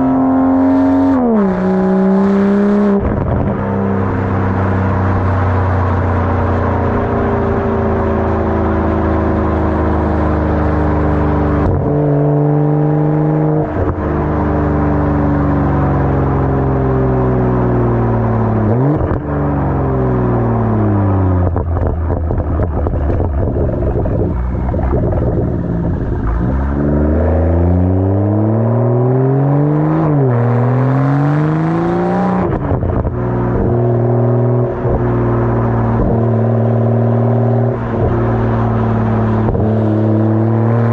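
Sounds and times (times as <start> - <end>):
car exhaust note: 0.0 - 40.9.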